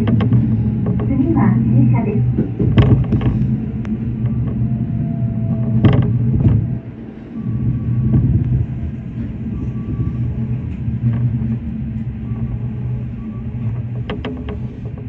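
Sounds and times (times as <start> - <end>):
electric train rumbling on rails: 0.0 - 15.0
train car creaking: 0.0 - 15.0.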